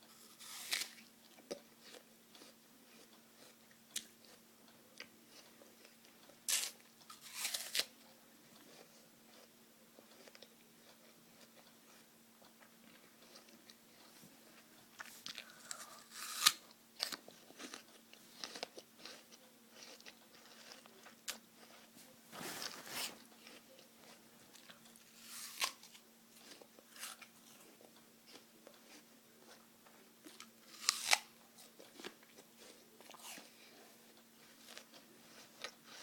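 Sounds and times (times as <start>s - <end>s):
faint steady hum: 0.0s - 36.0s
person chewing crisp apple: 0.1s - 36.0s.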